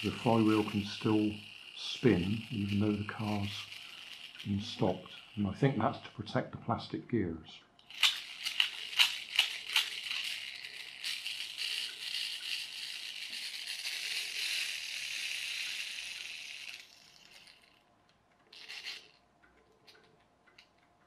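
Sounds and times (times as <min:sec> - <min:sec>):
toy click: 0:00.0 - 0:06.0, 0:07.8 - 0:21.0
toy friction motor whirring: 0:00.0 - 0:06.2, 0:07.8 - 0:17.8, 0:18.4 - 0:19.2.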